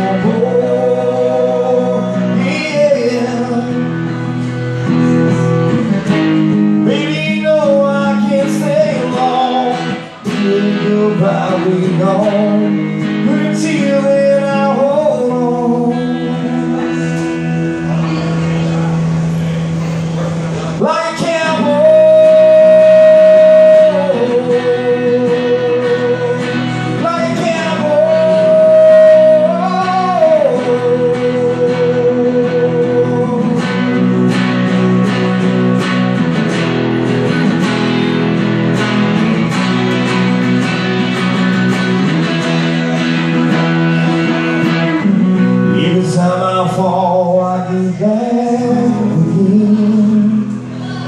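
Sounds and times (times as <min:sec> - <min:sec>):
man singing: 0:00.0 - 0:18.8, 0:20.6 - 0:35.5, 0:42.0 - 0:51.0
electric guitar strumming: 0:00.0 - 0:51.0.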